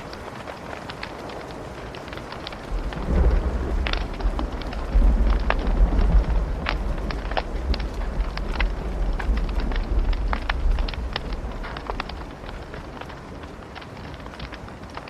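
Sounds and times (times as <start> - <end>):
thunder rumbling: 0.0 - 15.0
wood fire crackling and popping: 0.0 - 15.0.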